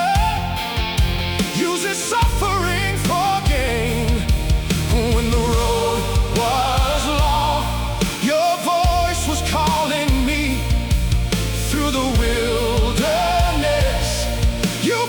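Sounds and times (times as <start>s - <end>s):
person singing with vibrato: 0.0s - 11.0s, 11.6s - 15.0s
rock band bass and drums: 0.0s - 15.0s.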